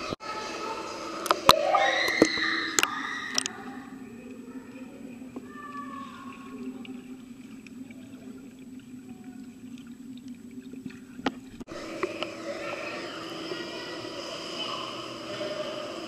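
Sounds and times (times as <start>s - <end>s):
faint gurgles: 0.0s - 16.0s
underwater hum: 0.0s - 16.0s.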